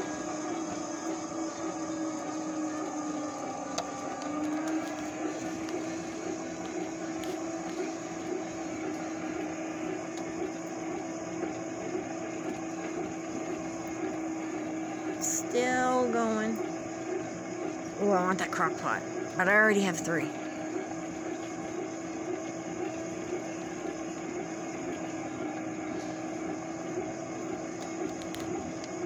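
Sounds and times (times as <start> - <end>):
electric cart motor whining: 0.0 - 29.0.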